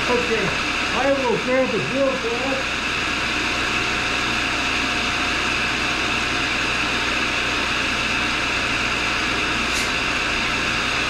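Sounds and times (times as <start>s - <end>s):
grinder motor humming and whirring: 0.0s - 11.0s.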